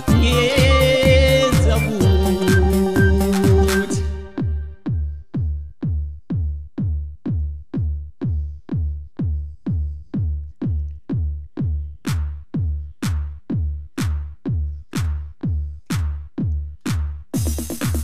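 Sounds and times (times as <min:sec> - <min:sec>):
drum machine kick drum: 0:00.0 - 0:18.0.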